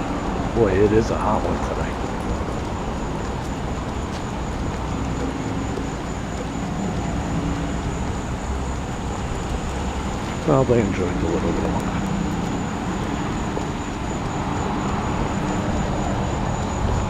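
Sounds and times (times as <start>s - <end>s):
street traffic noise: 0.0s - 17.0s
vehicle engine hum passing: 0.0s - 17.0s.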